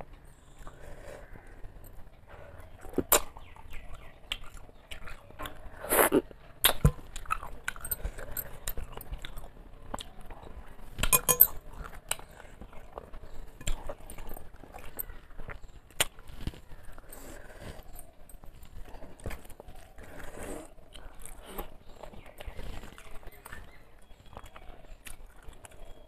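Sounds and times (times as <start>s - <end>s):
person chewing wet mouth sounds: 2.4s - 26.0s.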